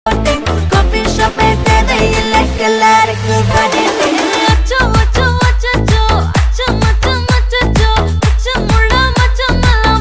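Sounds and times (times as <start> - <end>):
electronic dance music: 0.1 - 10.0.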